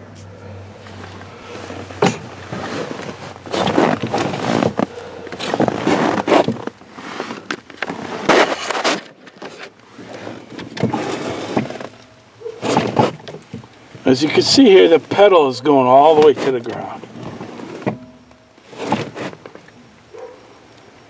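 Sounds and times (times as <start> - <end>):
brake pedal scuffing and knocking: 0.1 - 20.3.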